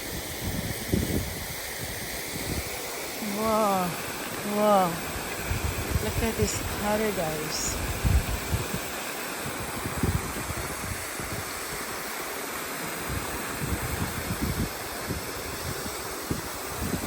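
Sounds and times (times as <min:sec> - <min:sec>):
wind buffeting microphone: 0:00.0 - 0:12.1, 0:13.0 - 0:17.0
waterfall rushing: 0:00.0 - 0:17.0.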